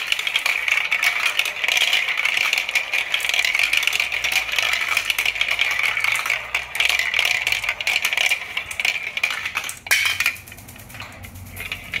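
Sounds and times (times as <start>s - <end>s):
marble rolling on plastic chute: 0.0s - 12.0s.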